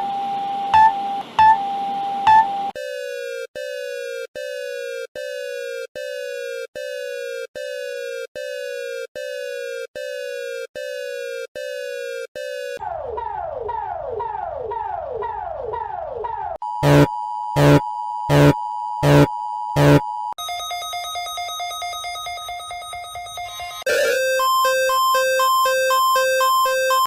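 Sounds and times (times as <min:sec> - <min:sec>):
electronic alarm tones: 0:00.0 - 0:12.8, 0:16.6 - 0:27.0.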